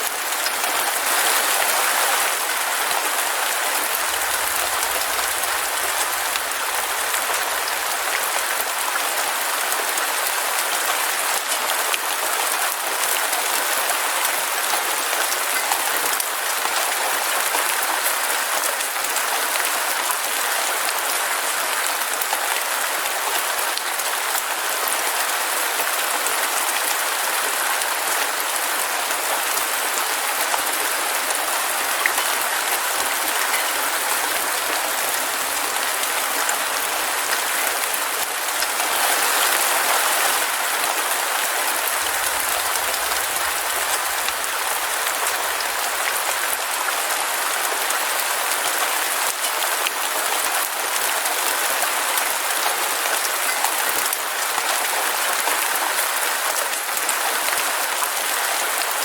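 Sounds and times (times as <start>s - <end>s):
heavy rain patter: 0.0s - 59.0s.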